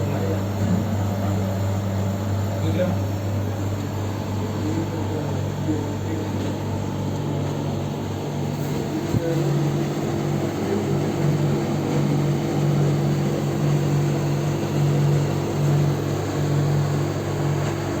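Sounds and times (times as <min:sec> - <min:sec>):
refrigerator hum: 0:00.0 - 0:18.0.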